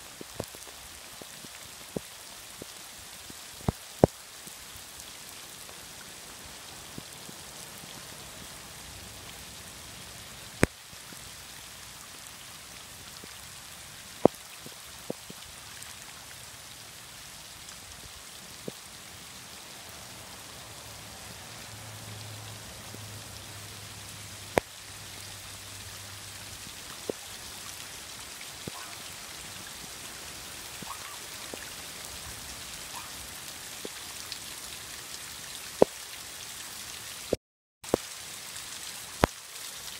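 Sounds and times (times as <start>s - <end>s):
rain falling on shallow water: 0.0s - 39.9s.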